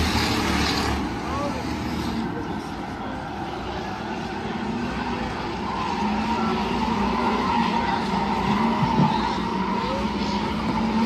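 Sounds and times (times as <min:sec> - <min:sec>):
race car engines: 0:00.0 - 0:11.0
tires squealing: 0:00.0 - 0:11.0.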